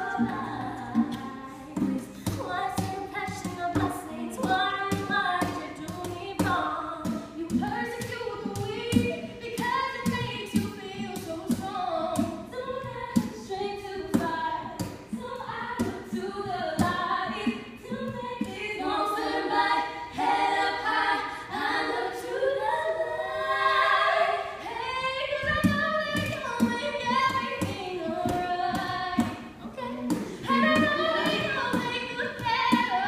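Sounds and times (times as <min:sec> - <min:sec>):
acoustic guitars strumming: 0:00.0 - 0:22.2, 0:24.8 - 0:33.0
women singing in harmony: 0:00.0 - 0:33.0.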